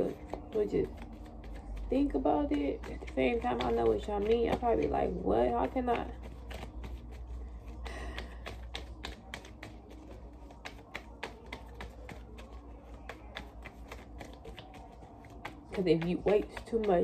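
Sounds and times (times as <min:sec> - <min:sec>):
cards being shuffled: 0:00.0 - 0:17.0.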